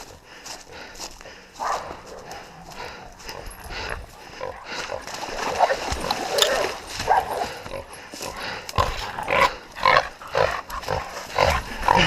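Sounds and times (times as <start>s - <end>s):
hog grunting: 2.2s - 12.0s.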